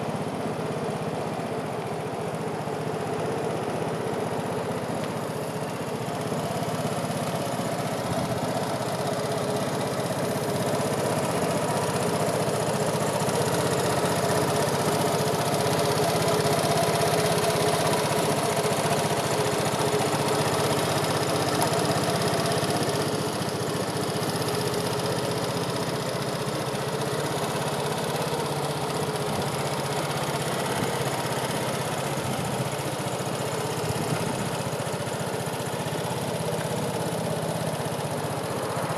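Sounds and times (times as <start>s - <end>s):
scooter engine idling: 0.0s - 38.9s.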